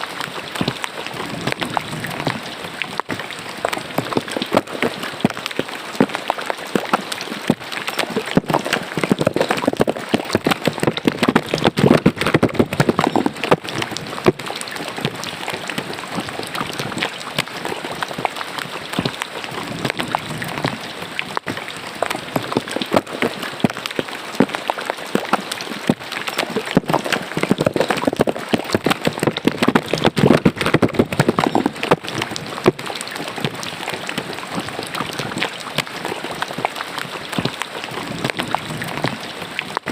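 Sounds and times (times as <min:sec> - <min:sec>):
rain splashing into water: 0:00.0 - 0:39.9.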